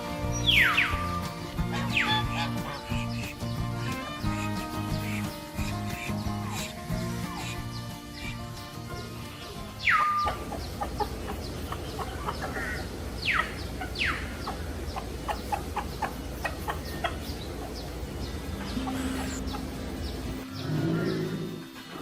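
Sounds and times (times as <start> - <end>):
downward-sweeping bird calls: 0.0 - 21.3
birds calling: 0.0 - 22.0.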